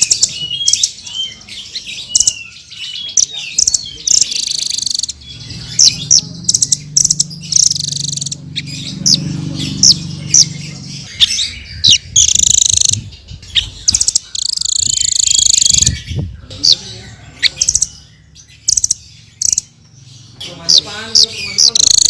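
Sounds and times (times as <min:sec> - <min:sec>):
parrot chirping and trilling: 0:00.0 - 0:22.0.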